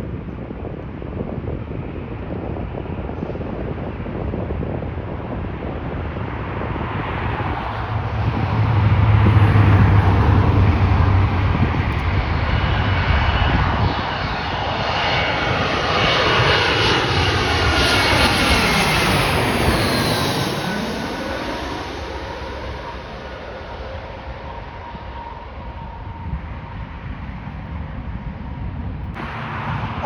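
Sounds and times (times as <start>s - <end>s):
jet engines roaring: 2.4s - 30.0s.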